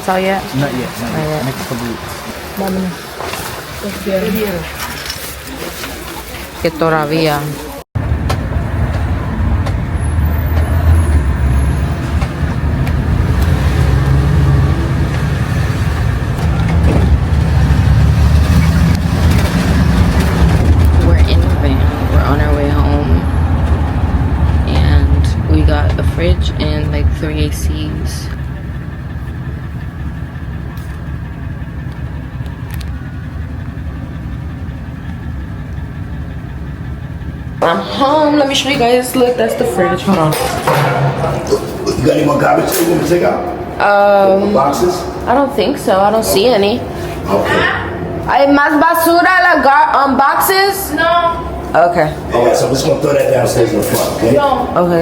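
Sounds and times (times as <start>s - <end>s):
minivan driving rumble: 0.0s - 55.0s
van engine and road noise: 0.0s - 55.0s.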